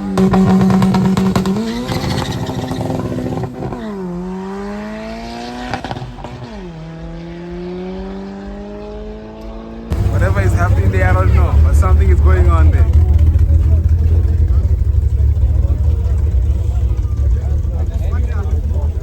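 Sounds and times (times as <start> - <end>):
car engine revving and accelerating: 0.0 - 19.0.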